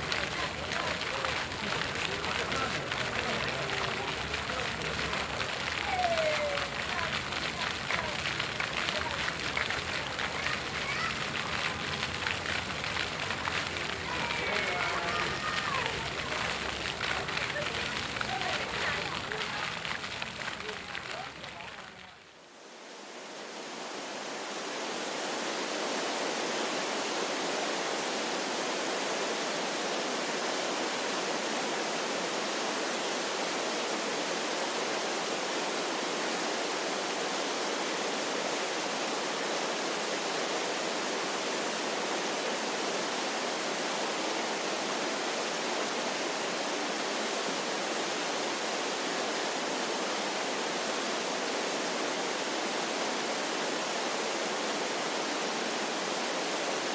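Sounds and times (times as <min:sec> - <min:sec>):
waterfall rushing: 0:00.0 - 0:22.2, 0:23.0 - 0:56.9.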